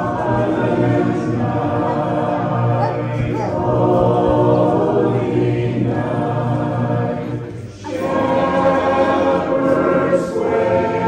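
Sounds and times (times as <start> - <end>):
choir singing sustained notes: 0.0 - 11.0.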